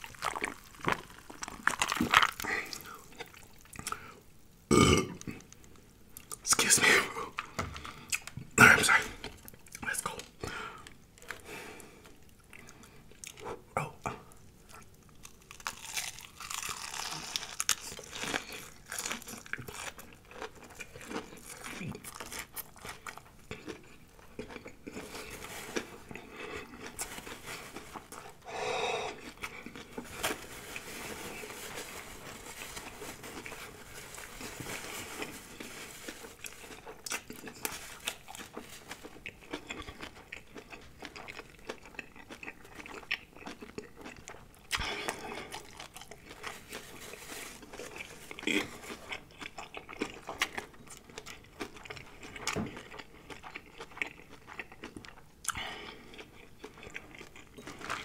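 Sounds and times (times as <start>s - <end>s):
crunching and chewing: 0.0s - 4.2s, 7.2s - 13.6s, 14.3s - 58.0s.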